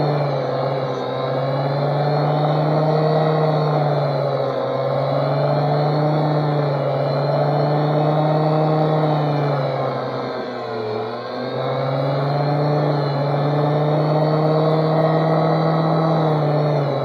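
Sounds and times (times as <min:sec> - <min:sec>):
power tool motor humming: 0:00.0 - 0:17.0.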